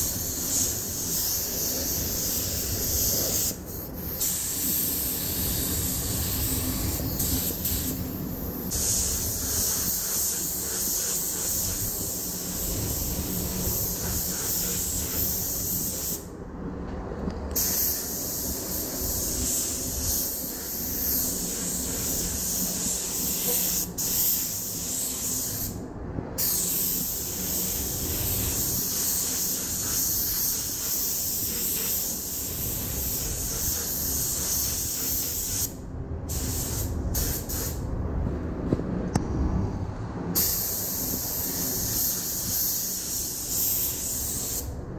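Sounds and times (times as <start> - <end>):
paint spray gun hissing: 0.0 - 16.2, 17.6 - 25.8, 26.4 - 37.8, 40.4 - 44.7
low rumble of air extraction: 0.0 - 44.9.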